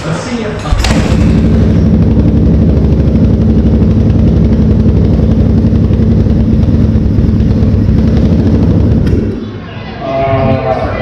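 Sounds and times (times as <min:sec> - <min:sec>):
motorcycle engine running: 0:00.7 - 0:09.6.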